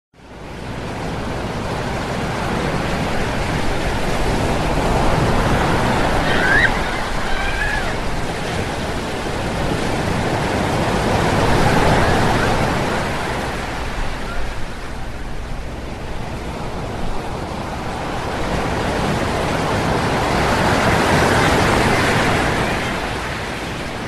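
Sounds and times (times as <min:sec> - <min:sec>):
ocean surf breaking on beach: 0:00.2 - 0:24.0.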